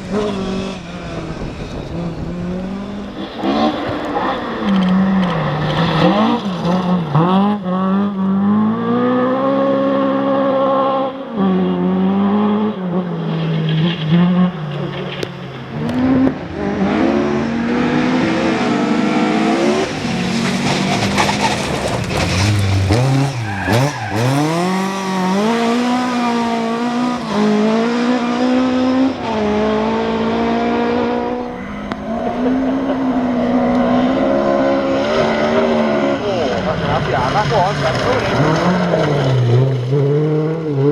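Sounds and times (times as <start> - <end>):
rally car engine at full throttle: 0.0 - 40.9.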